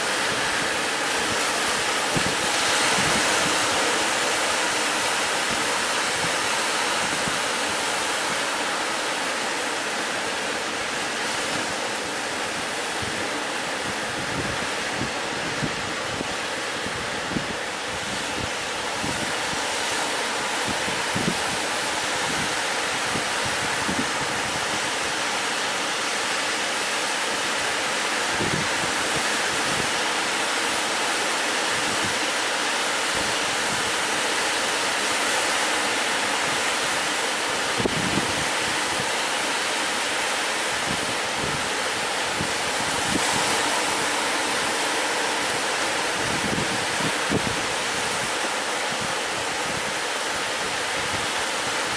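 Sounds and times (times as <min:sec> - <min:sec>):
sea surf breaking: 0:00.0 - 0:51.9
wind buffeting microphone: 0:00.0 - 0:51.9.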